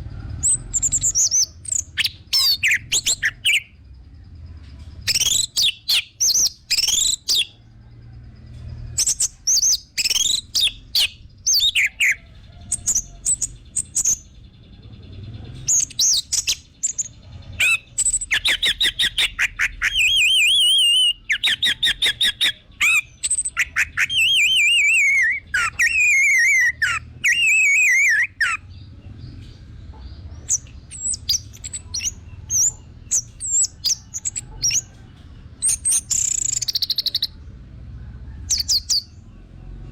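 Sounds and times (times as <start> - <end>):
thrush singing chirps and trills: 0.0 - 39.9.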